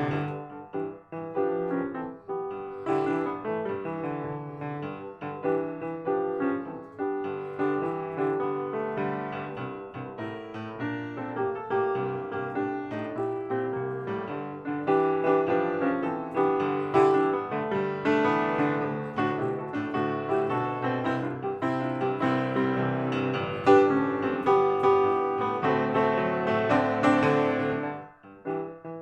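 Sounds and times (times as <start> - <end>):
solo piano music: 0.0 - 29.0.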